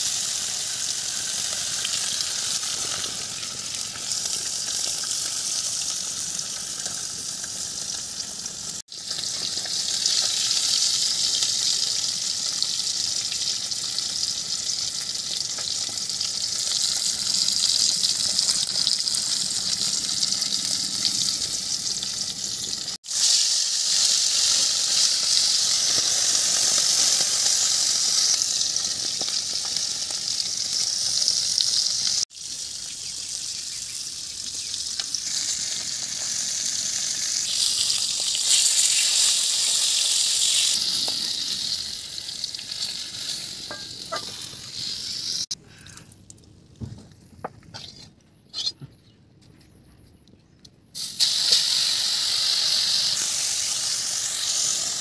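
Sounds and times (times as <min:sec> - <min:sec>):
fish sizzling in hot oil: 0:00.0 - 0:45.6, 0:51.0 - 0:55.0.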